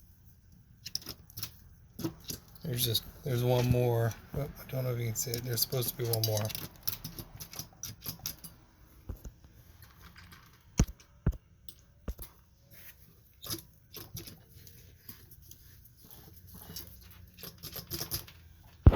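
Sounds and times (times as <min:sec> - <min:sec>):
tools handled on a workbench: 0:00.8 - 0:04.6, 0:05.2 - 0:18.9.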